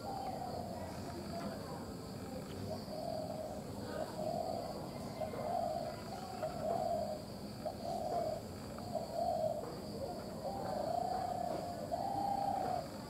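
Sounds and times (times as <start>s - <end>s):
low hooting bird calls: 0.0s - 1.6s, 2.3s - 13.0s
high insect drone: 0.0s - 13.0s.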